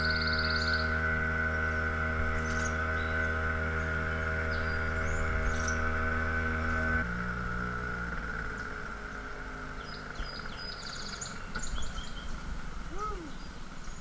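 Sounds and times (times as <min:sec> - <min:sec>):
birds chirping: 0:00.0 - 0:07.1, 0:08.2 - 0:14.0
small outboard motor: 0:00.0 - 0:14.0.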